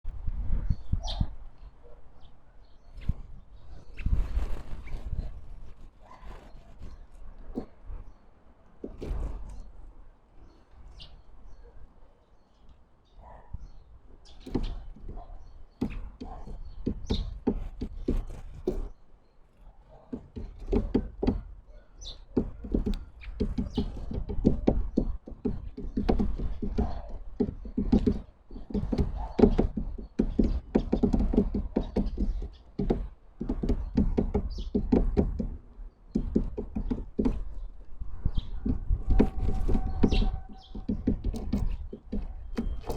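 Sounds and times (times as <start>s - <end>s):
birds pecking and tapping: 4.0s - 11.2s, 13.7s - 42.9s.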